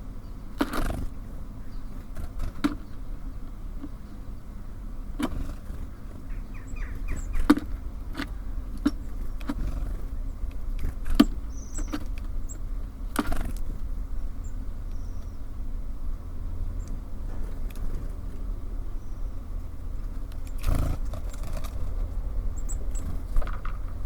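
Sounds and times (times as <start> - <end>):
low rumble of city traffic: 0.0 - 24.0
birds pecking at feeder: 0.3 - 1.2, 1.8 - 15.4, 16.8 - 24.0.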